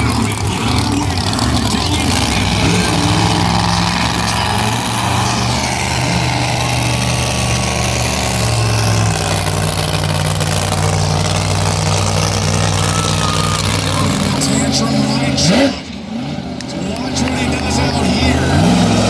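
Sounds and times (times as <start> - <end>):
monster truck engines running: 0.0 - 19.0.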